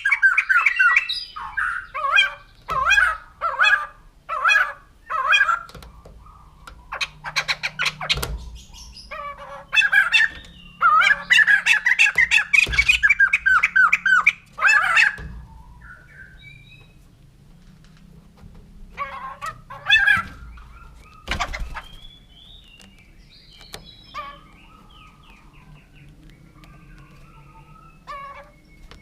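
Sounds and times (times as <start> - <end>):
laughingthrush calling: 0.0 - 17.0, 18.9 - 22.8, 23.8 - 28.6.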